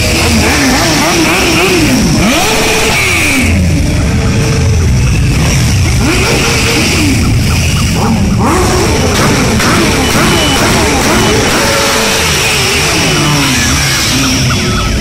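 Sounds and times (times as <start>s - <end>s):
motorcycles revving past: 0.0s - 15.0s.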